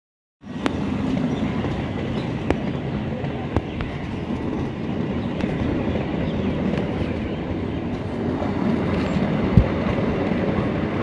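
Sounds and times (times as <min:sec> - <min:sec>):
train wheels rumbling on rail: 0:00.4 - 0:11.0
wheels clacking over rail joints: 0:00.5 - 0:11.0.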